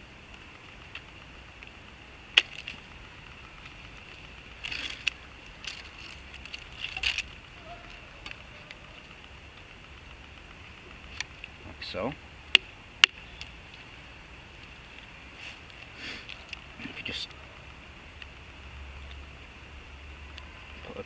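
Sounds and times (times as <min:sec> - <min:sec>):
twig cracking: 0:00.2 - 0:19.5.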